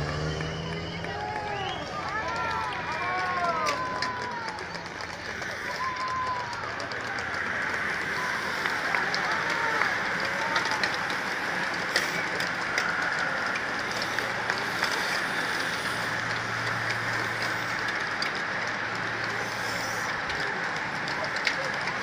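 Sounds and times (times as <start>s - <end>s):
bicycle clicks: 0.0s - 22.0s
bicycles whirring past: 0.0s - 22.0s.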